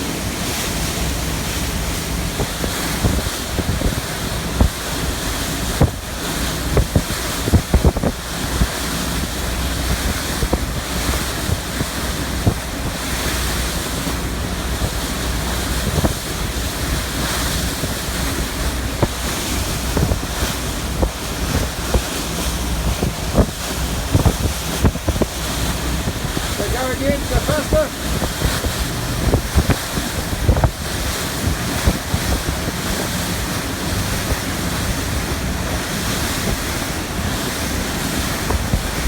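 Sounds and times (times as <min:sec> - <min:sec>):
choppy water rushing: 0:00.0 - 0:39.0
low boat engine drone: 0:00.0 - 0:39.0
wind buffeting microphone: 0:00.0 - 0:39.0.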